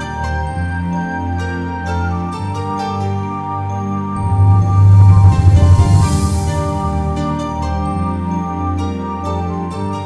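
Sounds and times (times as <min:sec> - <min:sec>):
new-age instrumental music: 0:00.0 - 0:10.0.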